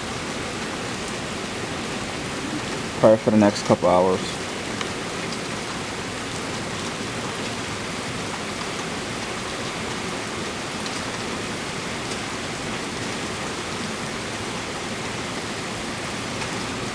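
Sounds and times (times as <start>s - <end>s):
torrential rain hissing: 0.0s - 16.9s.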